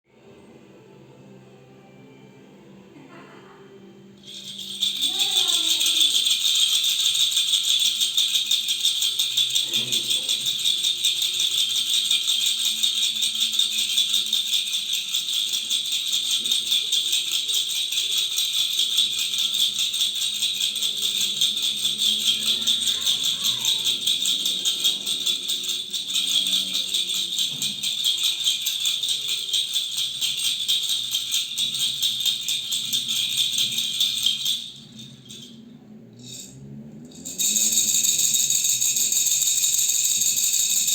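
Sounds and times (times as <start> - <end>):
toy rattle shaken rapidly: 4.2 - 40.9.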